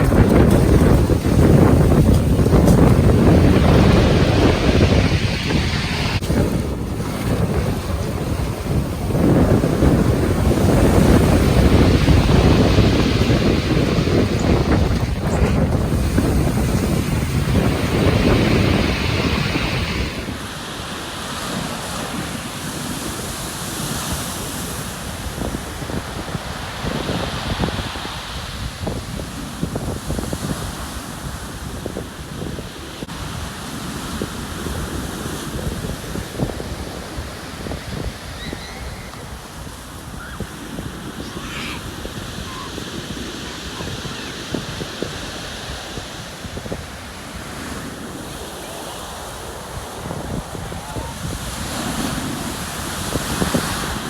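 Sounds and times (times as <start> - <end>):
sea surf rushing: 0.0 - 54.0
wind buffeting microphone: 0.0 - 54.0.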